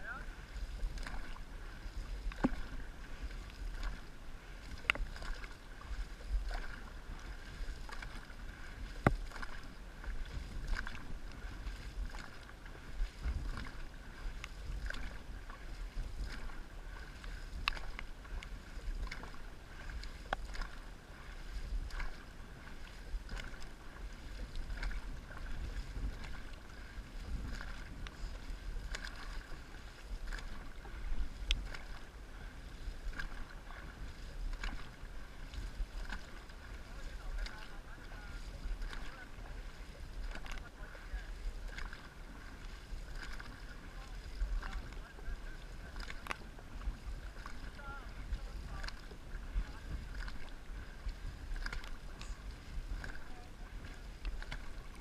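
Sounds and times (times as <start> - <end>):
water wash: 0.0 - 55.0
wind rumble on microphone: 0.0 - 55.0.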